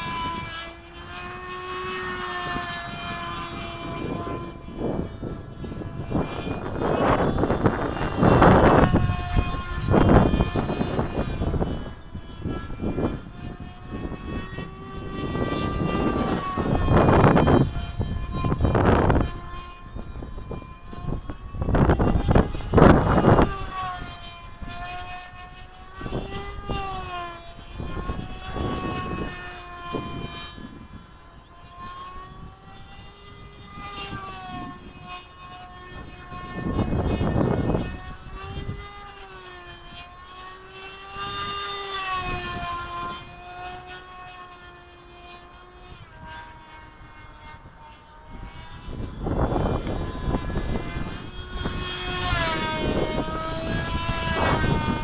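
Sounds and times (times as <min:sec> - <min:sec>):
electric motor and propeller whining: 0:00.0 - 0:55.0
wind buffeting microphone: 0:00.0 - 0:55.0.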